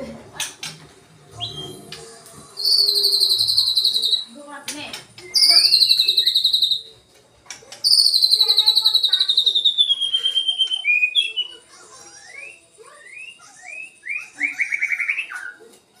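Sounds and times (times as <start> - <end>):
bird singing trills: 1.3 - 7.0, 7.7 - 15.7.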